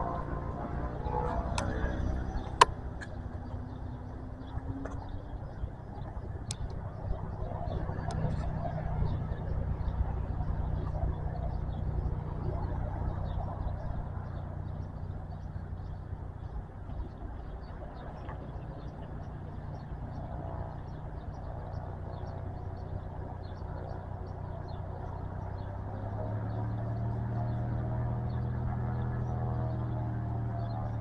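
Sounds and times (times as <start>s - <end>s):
turboprop engine droning: 0.0s - 31.0s.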